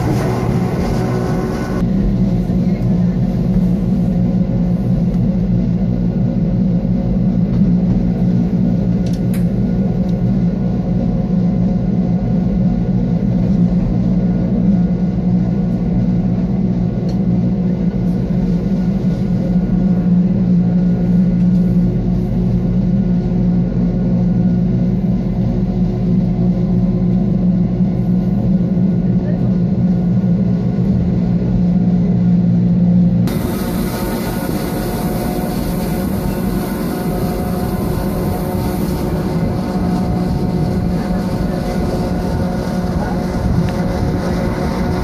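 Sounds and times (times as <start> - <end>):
electric train drive humming: 0.0 - 45.0
train rumble: 0.0 - 45.0.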